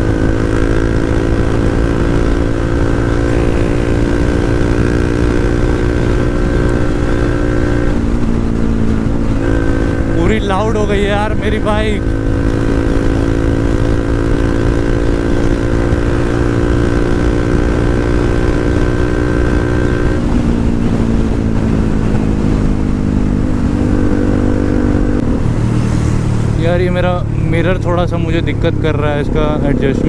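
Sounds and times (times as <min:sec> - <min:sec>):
motorcycle engine running: 0:00.0 - 0:30.0
wind rumble on microphone: 0:00.0 - 0:30.0.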